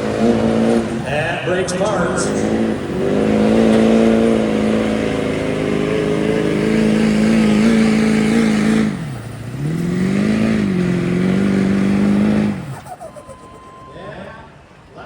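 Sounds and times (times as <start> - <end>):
diesel truck engine at high revs: 0.0 - 14.8.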